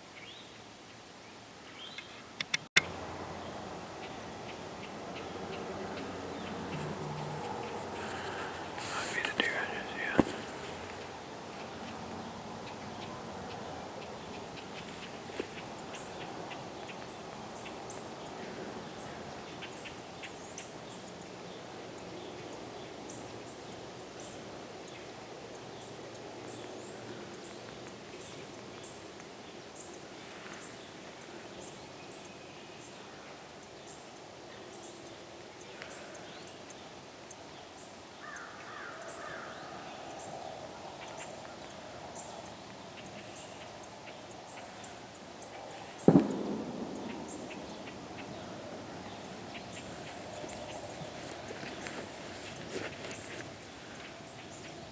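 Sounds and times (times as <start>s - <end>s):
steady background hiss: 0.0s - 54.9s
birds chirping: 1.7s - 34.0s, 34.6s - 54.9s.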